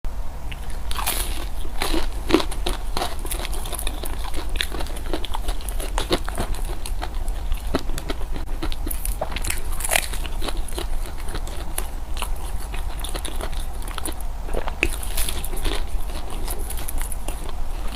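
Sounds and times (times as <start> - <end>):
steady low hum: 0.1 - 17.9
person chewing crunchy food: 0.5 - 17.9.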